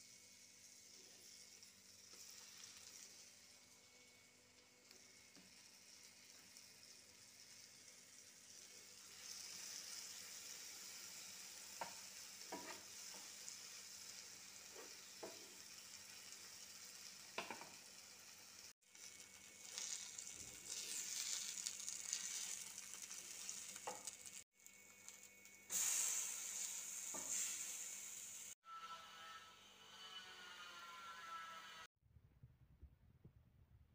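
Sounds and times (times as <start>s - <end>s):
bread sizzling in oil: 0.0s - 28.6s.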